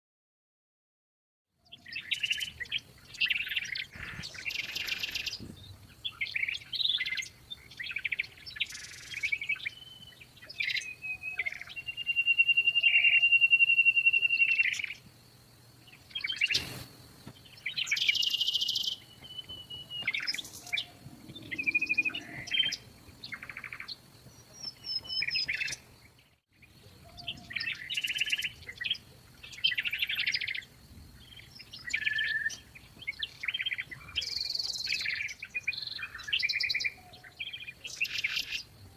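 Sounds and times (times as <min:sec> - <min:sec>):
songbirds chirping and singing: 0:01.6 - 0:38.9.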